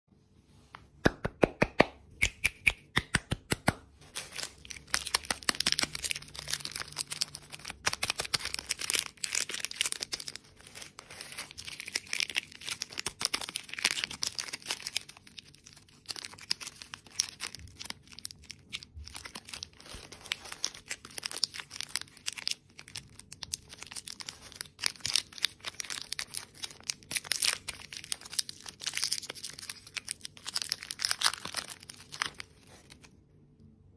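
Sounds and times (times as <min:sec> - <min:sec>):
plastic wrappers crinkling: 0:03.9 - 0:33.2.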